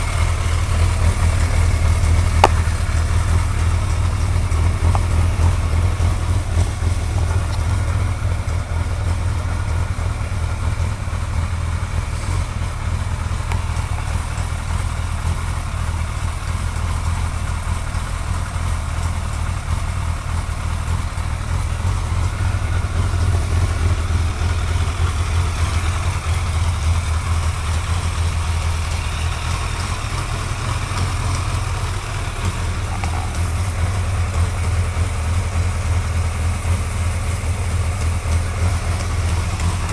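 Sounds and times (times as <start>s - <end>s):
engine ticking: 0.0s - 39.9s
motorcycle engine idling: 0.0s - 39.9s.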